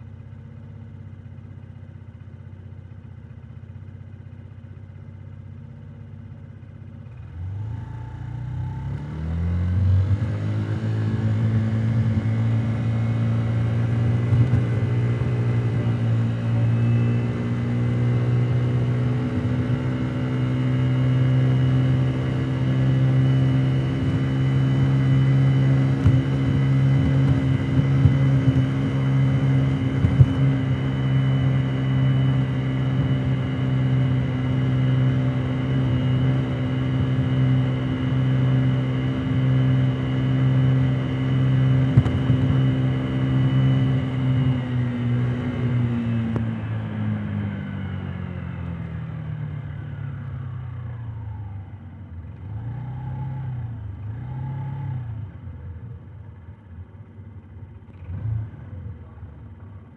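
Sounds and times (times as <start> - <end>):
moped engine running: 0.0 - 52.7.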